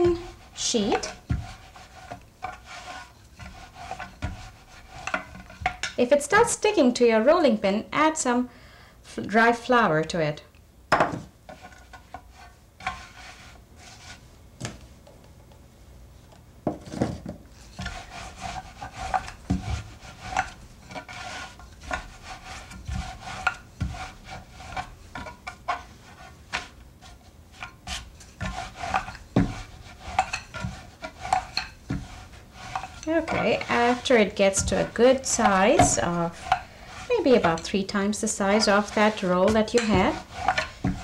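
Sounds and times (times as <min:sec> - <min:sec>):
rolling pin rubbing dough: 0:00.0 - 0:06.8, 0:11.4 - 0:14.3, 0:17.5 - 0:41.0.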